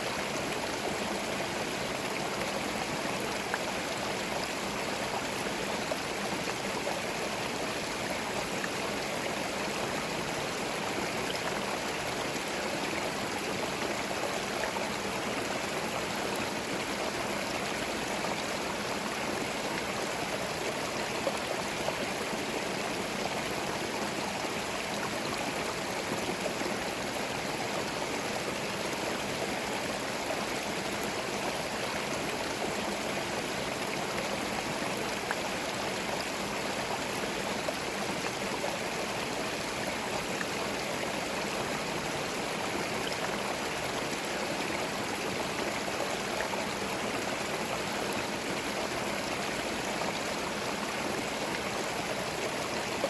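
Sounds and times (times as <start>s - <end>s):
stream running over stones: 0.0s - 53.0s.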